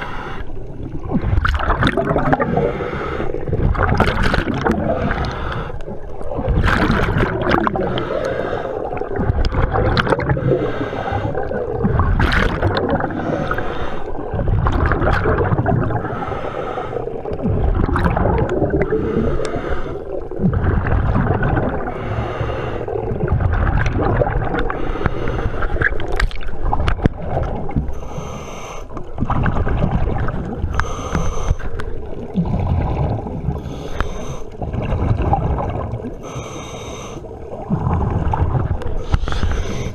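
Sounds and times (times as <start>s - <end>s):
exhaled bubbles gurgling: 0.0s - 39.9s.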